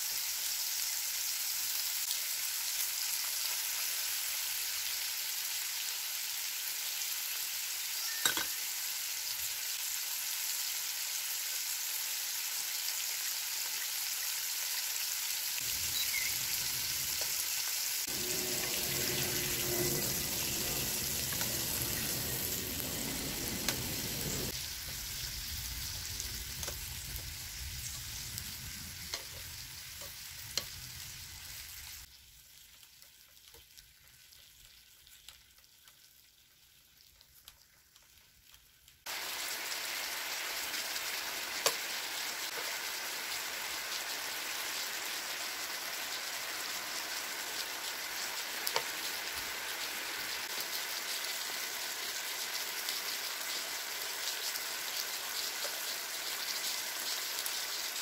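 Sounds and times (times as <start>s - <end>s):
meat and potatoes sizzling on grill: 0.0s - 58.0s.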